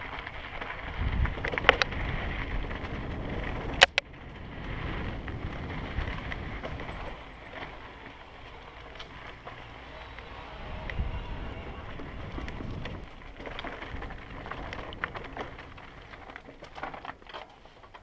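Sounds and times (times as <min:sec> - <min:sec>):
wind rumble on microphone: 0:00.0 - 0:17.1
bike rattling over bumps: 0:00.0 - 0:18.0
bike tyres on dirt: 0:00.0 - 0:18.0.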